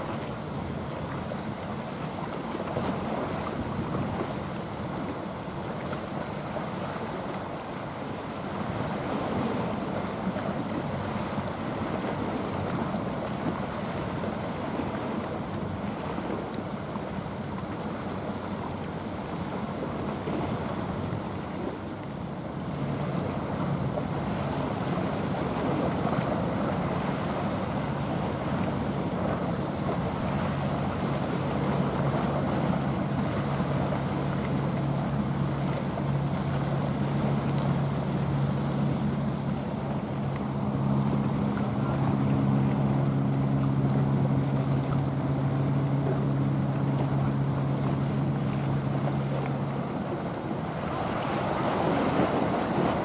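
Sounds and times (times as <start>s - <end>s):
ship engine drone: 0.0s - 53.0s
water rushing from bow wave: 0.0s - 53.0s.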